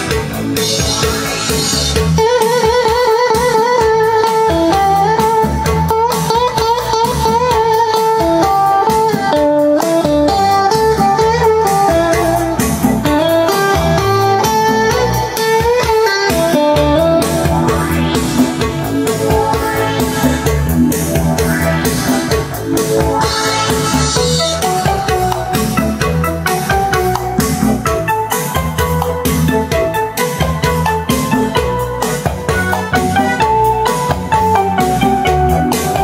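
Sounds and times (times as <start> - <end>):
instrumental music with lead guitar: 0.0 - 36.0.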